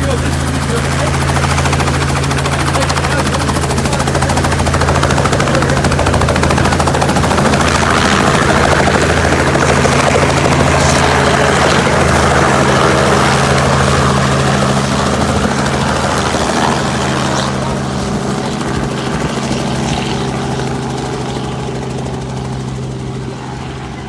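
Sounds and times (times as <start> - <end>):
helicopter engine drone: 0.0 - 24.0
helicopter rotor chopping: 0.0 - 24.0.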